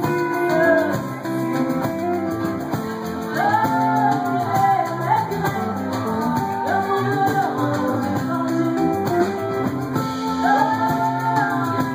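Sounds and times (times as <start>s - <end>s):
person singing: 0.0s - 1.8s, 3.1s - 11.9s
drums: 0.0s - 11.9s
strummed guitars: 0.0s - 11.9s.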